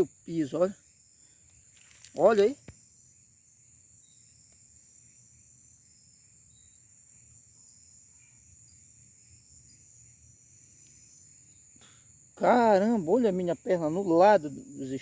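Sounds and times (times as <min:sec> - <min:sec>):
crickets droning: 0:00.0 - 0:15.0
soft insect chirps: 0:00.0 - 0:15.0.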